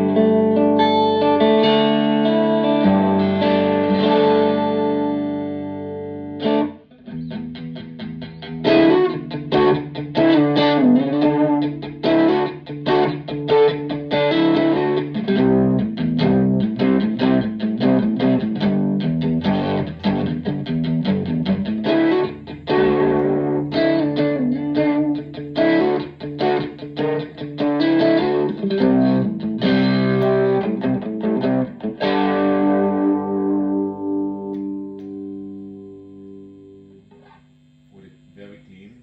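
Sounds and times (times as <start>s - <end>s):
electric guitar playing: 0.0s - 37.5s.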